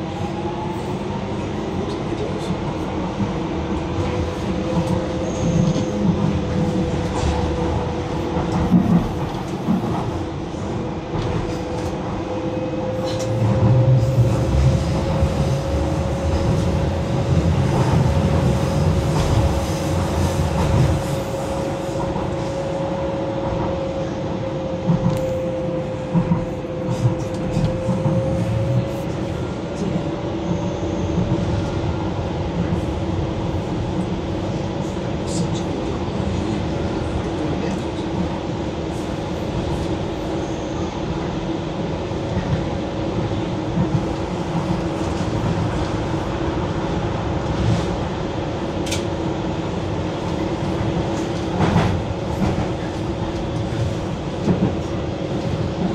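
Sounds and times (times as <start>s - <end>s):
rumble of wheels on track: 0.0s - 55.9s.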